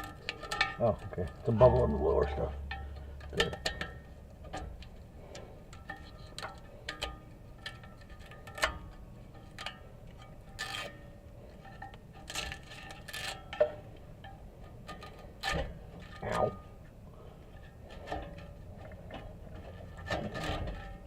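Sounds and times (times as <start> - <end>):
metallic clicks taps and scrapes: 0.0 - 17.0.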